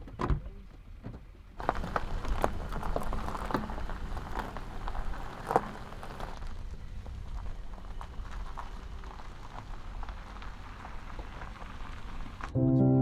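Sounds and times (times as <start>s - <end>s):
tyres crunching over gravel: 0.5s - 12.6s.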